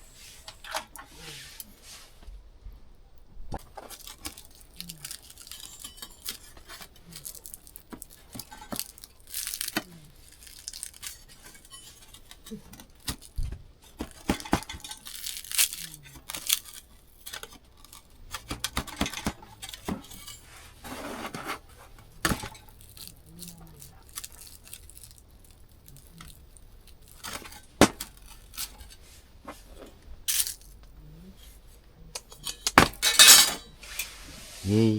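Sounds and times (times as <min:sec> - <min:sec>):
packaging rustling: 0:03.6 - 0:33.9
utensils clinking and tapping: 0:03.6 - 0:34.2.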